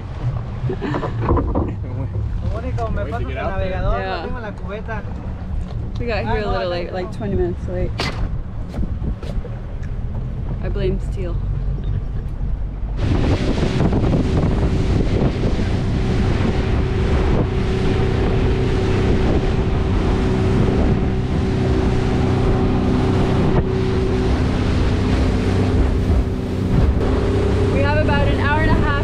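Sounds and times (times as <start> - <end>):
outboard motor running: 0.0 - 29.0
water rushing past hull: 0.0 - 29.0
wind buffeting microphone: 0.0 - 29.0.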